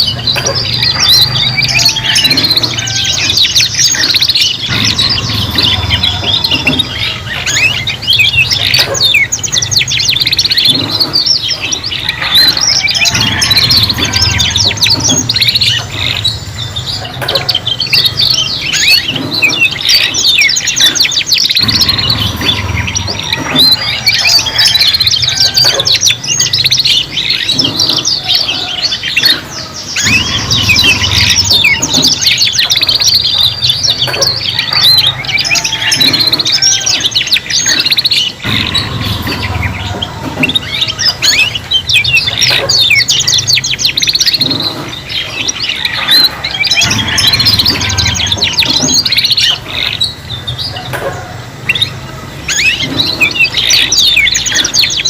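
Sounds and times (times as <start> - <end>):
canaries singing: 0.0 - 55.0.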